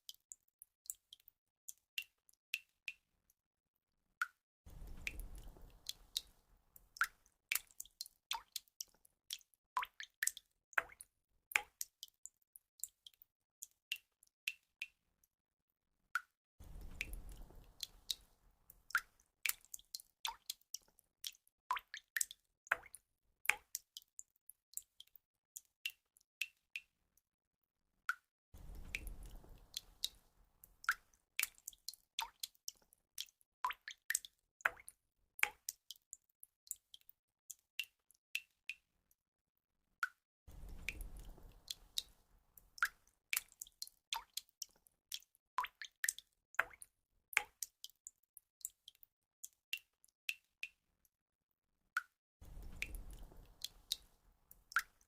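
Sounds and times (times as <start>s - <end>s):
water drops dripping: 0.0s - 3.0s, 4.2s - 15.0s, 16.2s - 26.9s, 28.1s - 38.8s, 40.0s - 50.8s, 52.0s - 55.0s.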